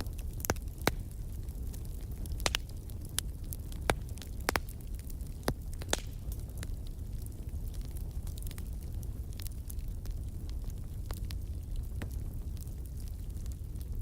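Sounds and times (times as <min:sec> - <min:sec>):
fire low rumble: 0:00.0 - 0:14.0
wood fire popping and snapping: 0:00.0 - 0:14.0.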